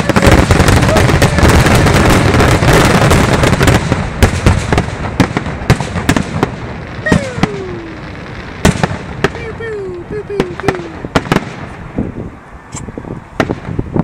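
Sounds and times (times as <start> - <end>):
fireworks bangs and crackle: 0.0 - 12.3, 13.2 - 14.0.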